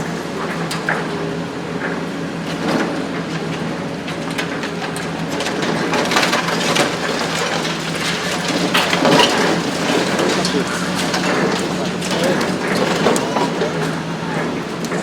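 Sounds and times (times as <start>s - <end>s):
excavator engine drone: 0.0s - 15.0s
debris crackling and falling: 0.1s - 15.0s
concrete crunching and cracking: 2.5s - 15.0s.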